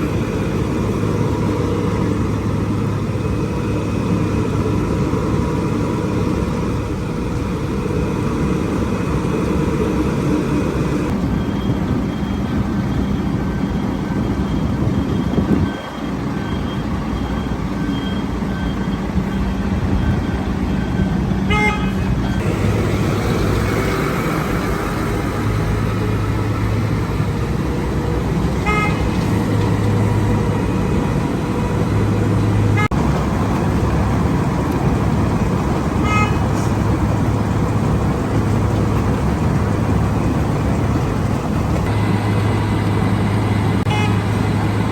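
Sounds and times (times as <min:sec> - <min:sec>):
construction machinery engines running: 0:00.0 - 0:44.9.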